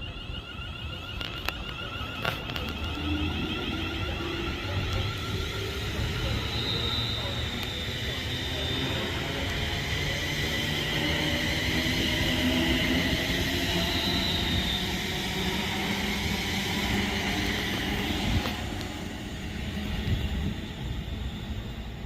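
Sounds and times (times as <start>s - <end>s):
train whine and rumble: 0.0s - 22.0s.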